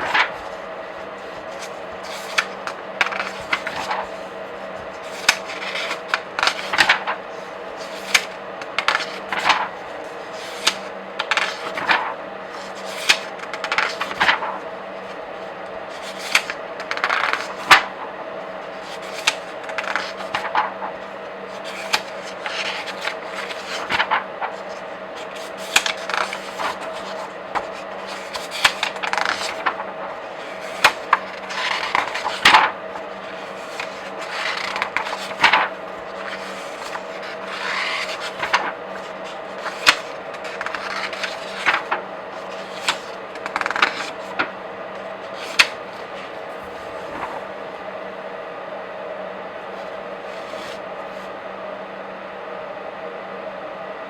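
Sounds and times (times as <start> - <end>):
comic book pages flipping: 0.0 - 47.7, 49.7 - 51.3
faint steady hum: 0.0 - 54.0.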